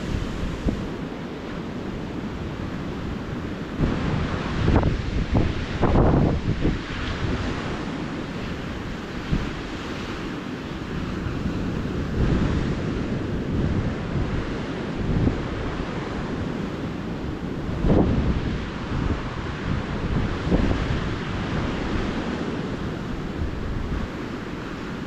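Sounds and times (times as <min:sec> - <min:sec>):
ocean surf washing onto beach: 0:00.0 - 0:25.0
wind buffeting microphone: 0:00.0 - 0:25.0.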